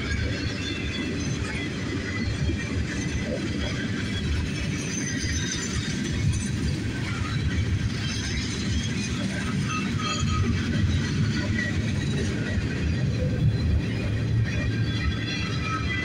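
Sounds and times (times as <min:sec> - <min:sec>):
steel wheels rumbling on track: 0:00.0 - 0:16.0.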